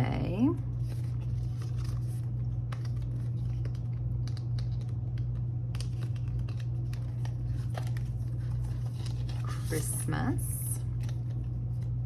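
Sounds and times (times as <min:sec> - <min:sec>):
steady low hum: 0:00.0 - 0:12.0
paper cards and envelopes handled: 0:00.6 - 0:12.0.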